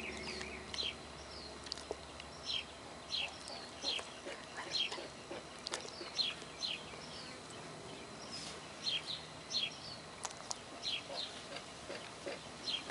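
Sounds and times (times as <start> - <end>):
small bird chirping: 0.0 - 12.9.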